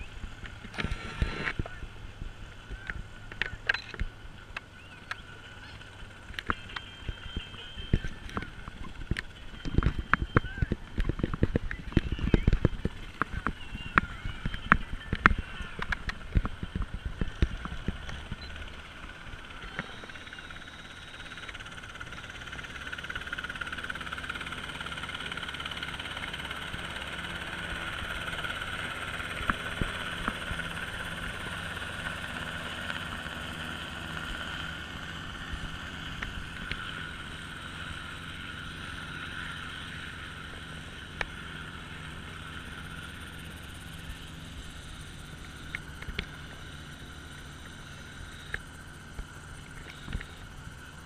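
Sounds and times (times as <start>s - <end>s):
helicopter engine and rotor: 0.0s - 51.0s.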